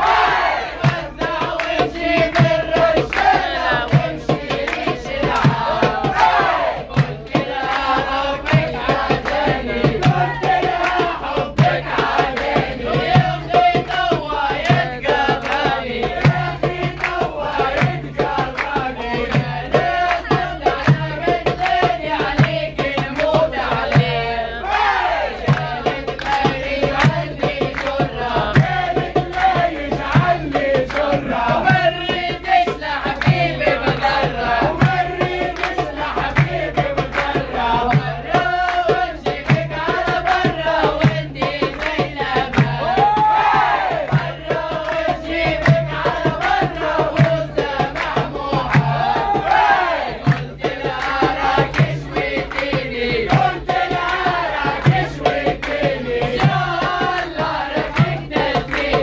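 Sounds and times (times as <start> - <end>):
crowd clapping and shouting: 0.0 - 59.0
party music with drum beat: 0.0 - 59.0
person singing: 0.8 - 49.5.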